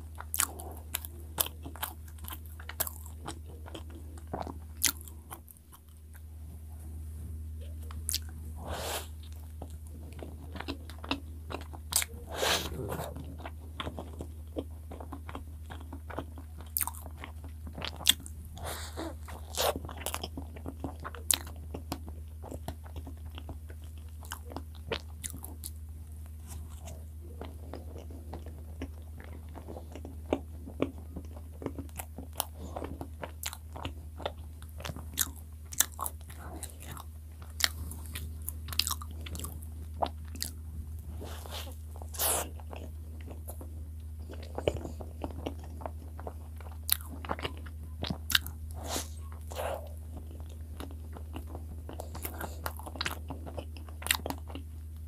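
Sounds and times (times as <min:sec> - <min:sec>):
biting and chewing bread: 0:00.0 - 0:06.3, 0:07.6 - 0:55.0.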